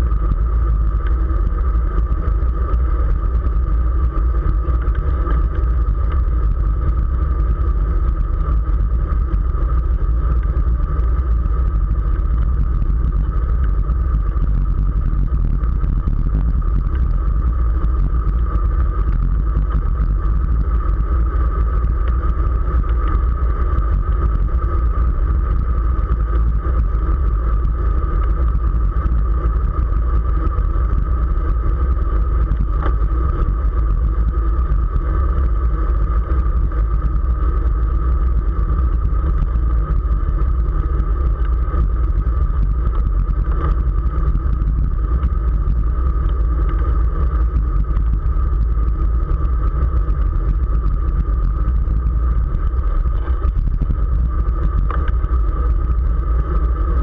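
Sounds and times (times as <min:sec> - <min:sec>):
mid-pitched hum: 0:00.0 - 0:57.0
wind buffeting microphone: 0:00.0 - 0:57.0.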